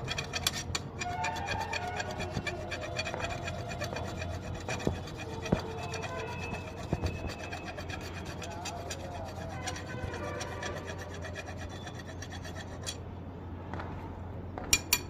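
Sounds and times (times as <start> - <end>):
hand tool rasping on copper pipe: 0.0 - 13.0.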